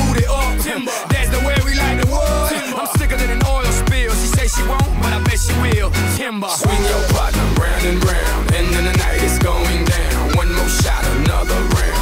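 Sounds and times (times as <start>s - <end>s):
dance-pop music: 0.0s - 12.0s.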